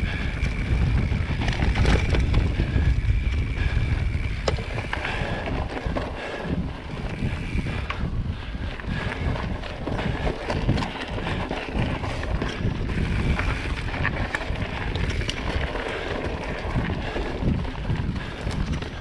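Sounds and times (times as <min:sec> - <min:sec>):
bike clicks and rattles: 0:00.0 - 0:19.0
bike tyres rolling on dirt: 0:00.0 - 0:19.0
wind rumbling on microphone: 0:00.0 - 0:19.0.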